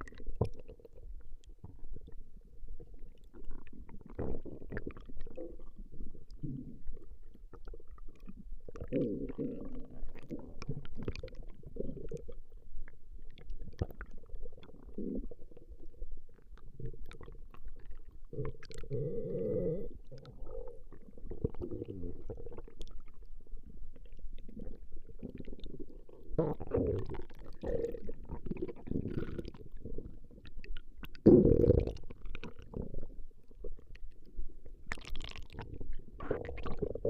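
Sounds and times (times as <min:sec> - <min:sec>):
stomach growling: 0:00.0 - 0:37.0.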